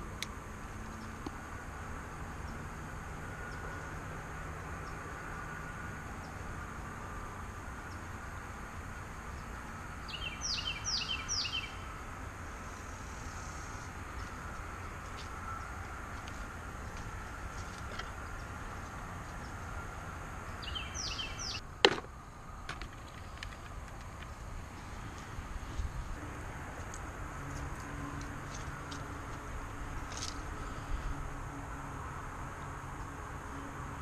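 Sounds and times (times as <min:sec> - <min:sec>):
low outdoor background noise: 0:00.0 - 0:34.0.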